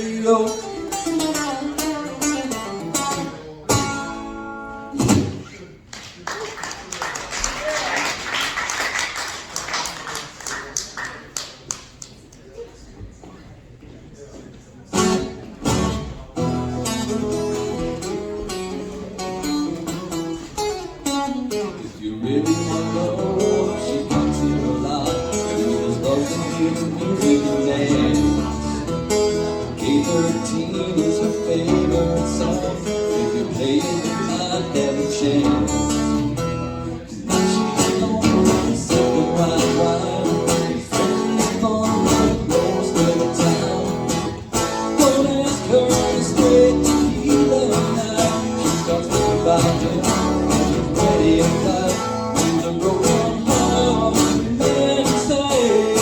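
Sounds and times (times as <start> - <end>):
acoustic guitar playing: 0.0 - 5.7, 14.9 - 56.0.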